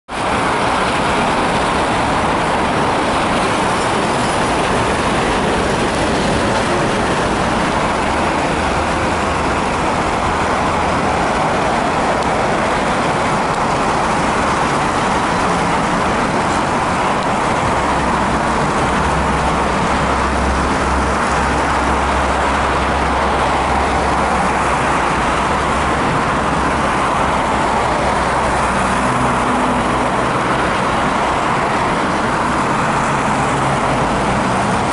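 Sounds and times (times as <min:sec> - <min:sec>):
road traffic roar: 0:00.1 - 0:34.9.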